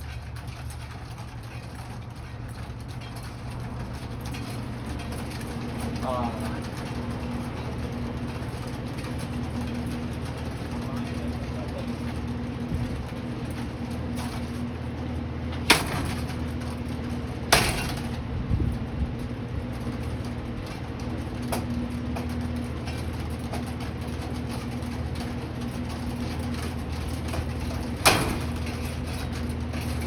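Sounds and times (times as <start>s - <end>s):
ceiling fan motor hum: 0.0s - 30.0s
objects hitting fan: 1.9s - 18.8s, 19.8s - 30.0s.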